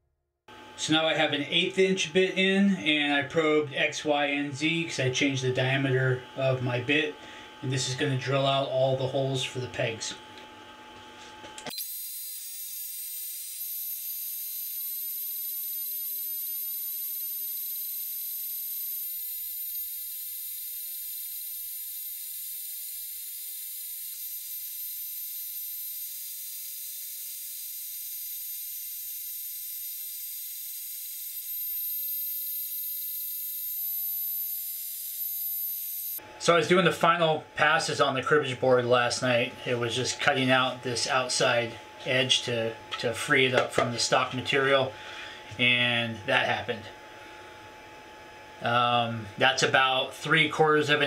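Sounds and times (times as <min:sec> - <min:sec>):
router high-pitched whine: 0:00.5 - 0:51.0.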